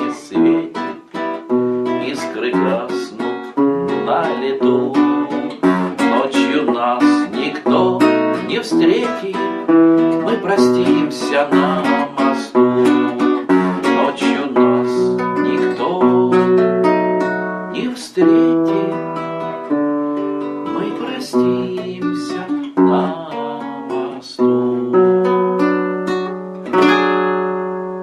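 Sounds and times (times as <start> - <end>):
acoustic guitar picking and strumming: 0.0 - 28.0.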